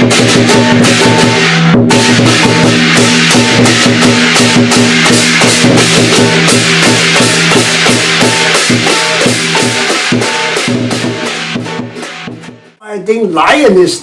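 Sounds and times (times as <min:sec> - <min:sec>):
music with drum beat: 0:00.0 - 0:12.8.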